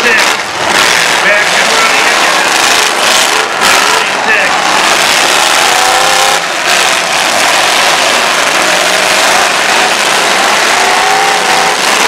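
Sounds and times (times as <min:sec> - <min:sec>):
car engines running hard: 0:00.0 - 0:12.0.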